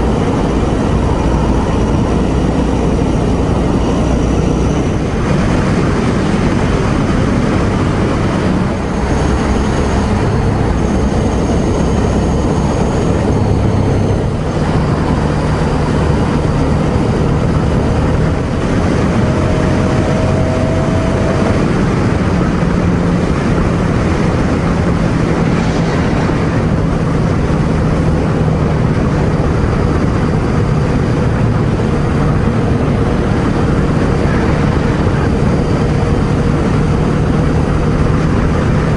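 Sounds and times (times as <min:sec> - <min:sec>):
motorcycle engine cruising: 0:00.0 - 0:38.9
road noise: 0:00.0 - 0:38.9
wind noise: 0:00.0 - 0:38.9.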